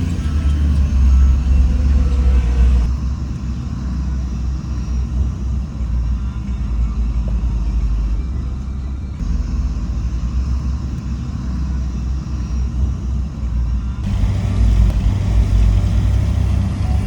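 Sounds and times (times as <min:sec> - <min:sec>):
heavy diesel machinery rumbling: 0:00.0 - 0:17.0.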